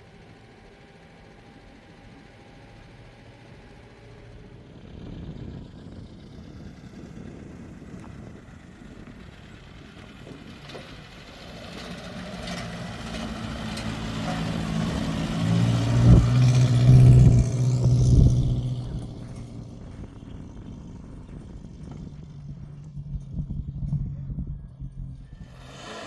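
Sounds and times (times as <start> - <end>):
vehicle engine passing by: 2.2 - 26.0.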